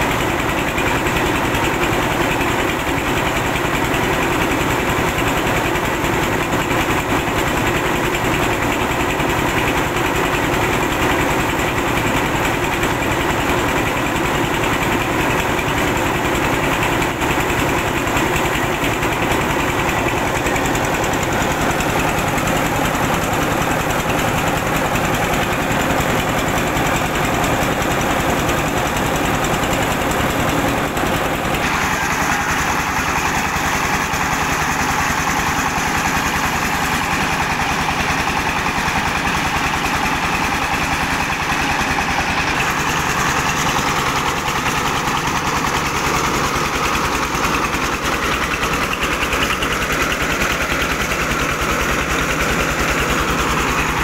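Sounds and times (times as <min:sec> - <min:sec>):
diesel engine running: 0:00.0 - 0:54.0
rice milling machine: 0:00.0 - 0:54.0.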